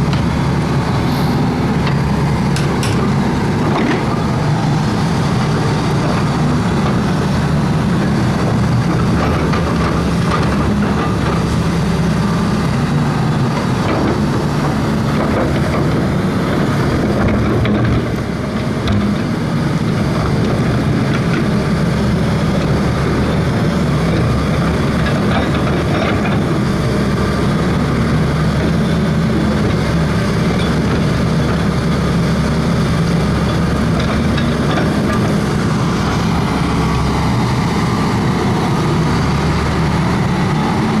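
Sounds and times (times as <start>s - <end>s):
excavator diesel engine humming: 0.0s - 41.0s.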